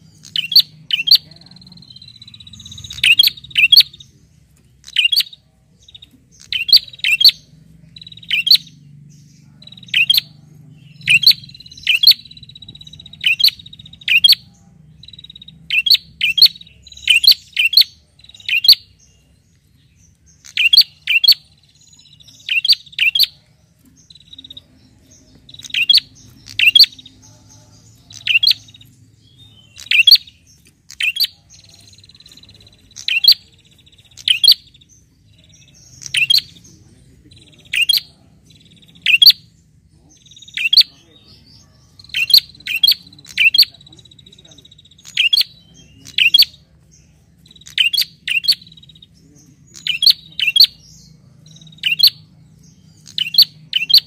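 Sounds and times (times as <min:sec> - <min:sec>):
faint high bird trill: 0:00.0 - 0:39.6, 0:40.2 - 0:54.0
bird sharp chirps: 0:00.0 - 0:54.0.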